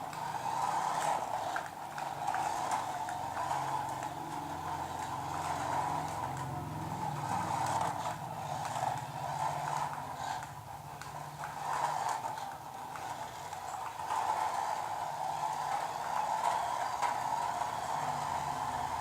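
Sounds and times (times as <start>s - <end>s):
rapid rattly clicking: 0.0s - 19.0s
toy car motor whirring: 0.0s - 19.0s.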